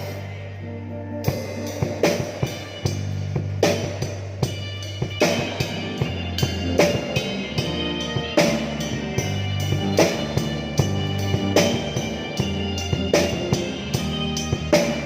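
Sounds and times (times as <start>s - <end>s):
sustained bass line: 0.0s - 15.0s
drum kit beat: 1.2s - 15.0s.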